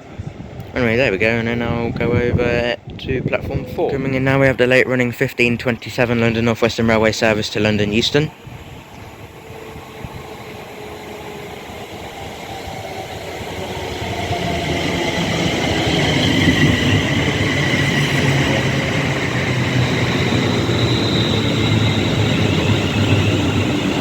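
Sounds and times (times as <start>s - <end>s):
electric train rumble with whine: 0.0s - 4.7s, 6.0s - 24.0s.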